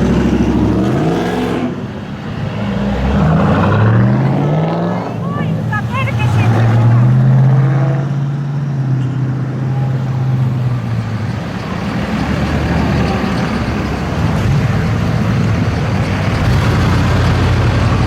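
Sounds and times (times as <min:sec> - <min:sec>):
car engine rumbling: 0:00.0 - 0:18.0.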